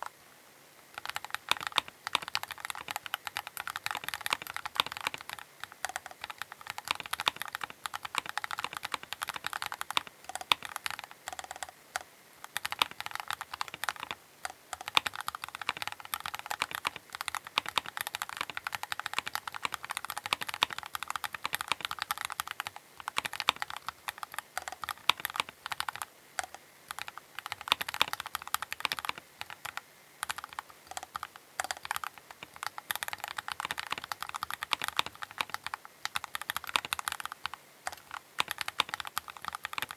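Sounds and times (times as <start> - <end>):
fast mechanical keyboard typing: 1.0 - 39.9.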